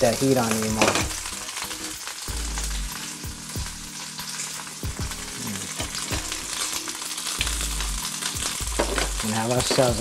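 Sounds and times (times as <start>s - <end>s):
fish sizzling in a pan: 0.0s - 10.0s.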